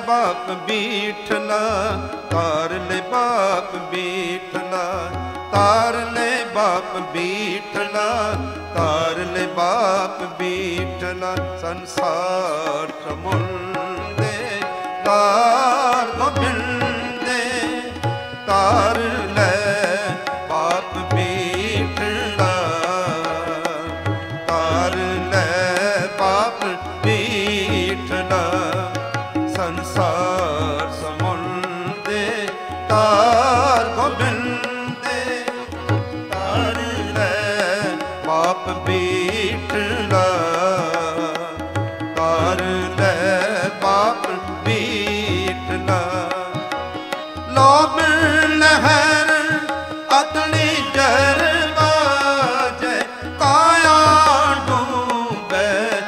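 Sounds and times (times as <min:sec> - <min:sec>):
harmonium melody: 0:00.0 - 0:56.0
person singing: 0:00.0 - 0:56.0
tabla beat: 0:00.0 - 0:56.0.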